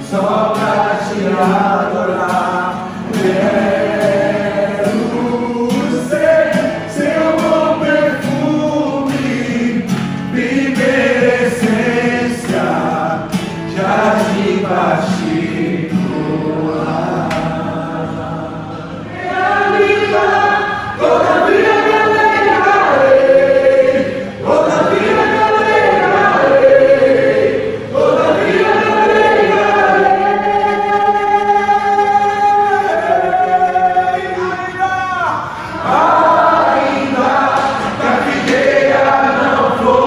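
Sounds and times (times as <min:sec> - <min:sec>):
voices singing held phrases: 0:00.0 - 0:40.0.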